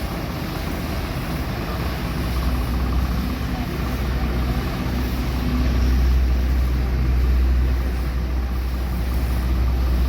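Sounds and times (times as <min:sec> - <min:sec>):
spray pump: 0:00.0 - 0:10.0
tractor engine running: 0:00.0 - 0:10.0.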